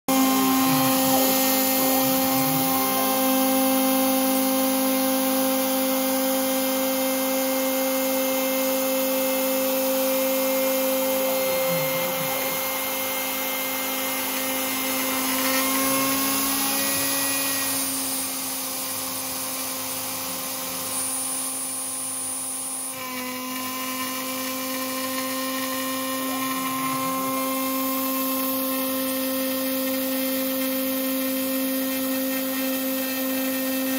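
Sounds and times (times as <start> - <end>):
milling spindle whining: 0.1 - 33.9.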